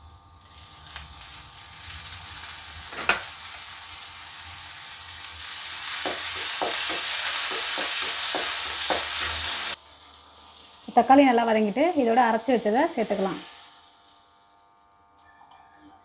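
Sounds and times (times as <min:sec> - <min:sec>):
vegetables sizzling in oil: 0:00.0 - 0:14.8.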